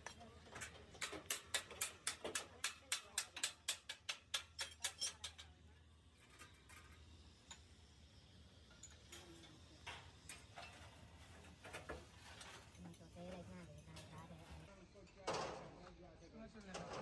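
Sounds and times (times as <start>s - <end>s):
faint scattered ticks and knocks: 0.0s - 5.6s, 6.2s - 7.7s, 8.6s - 17.0s.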